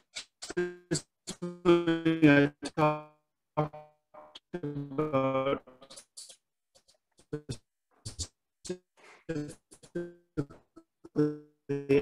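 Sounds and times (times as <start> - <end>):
garbled voice fragments: 0.0 - 3.0, 4.5 - 12.0.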